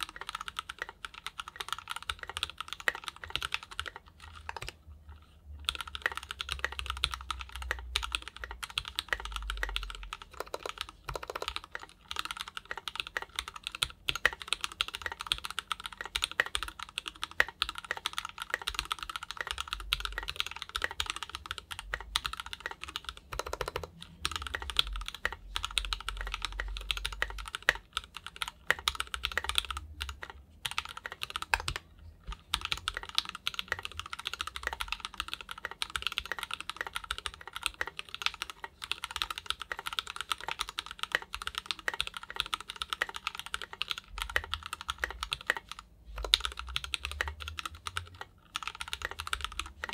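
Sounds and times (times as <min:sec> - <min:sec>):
mechanical keyboard typing: 0:00.0 - 0:49.9.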